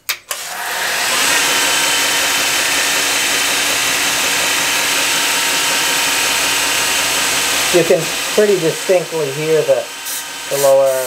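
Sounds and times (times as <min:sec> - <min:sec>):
belt grinder hissing: 0:00.4 - 0:11.0.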